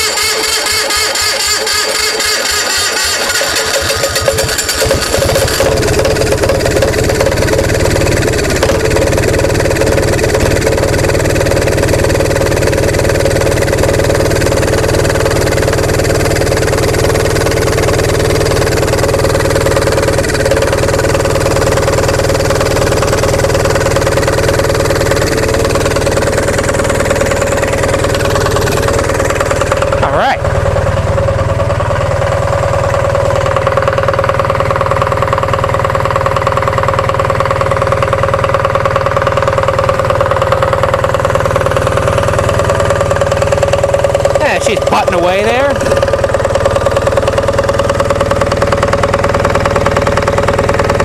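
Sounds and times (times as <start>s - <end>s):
diesel generator idling: 0.0s - 51.0s
electric starter cranking: 0.0s - 51.0s.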